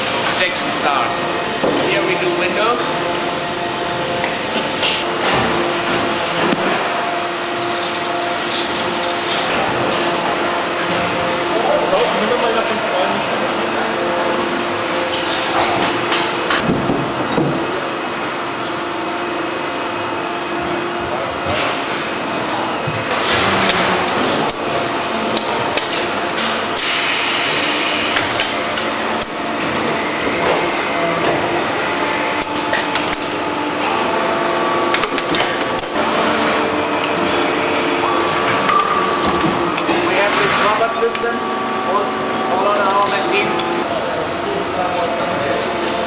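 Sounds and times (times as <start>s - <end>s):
machine hum with held tones: 0.0s - 46.0s.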